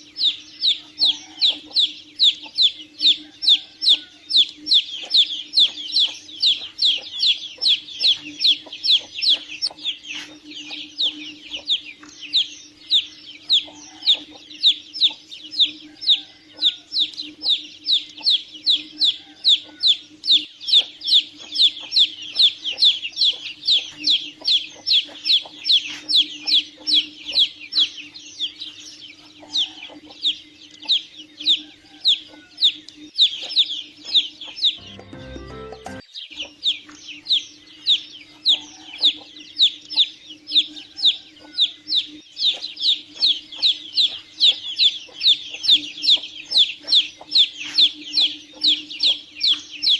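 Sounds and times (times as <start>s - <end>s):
chicks peeping: 0.0s - 49.9s.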